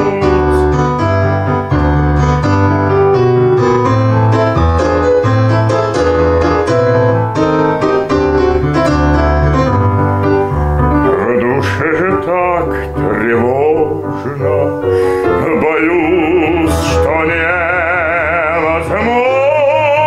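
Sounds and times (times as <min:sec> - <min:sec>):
piano playing: 0:00.0 - 0:20.0.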